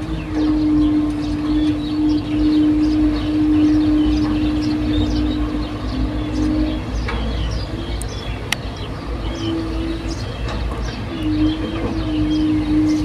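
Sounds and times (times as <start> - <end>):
birds chirping: 0.0 - 13.0
engine whine: 0.0 - 13.0
excavator diesel engine rumbling: 0.0 - 13.0.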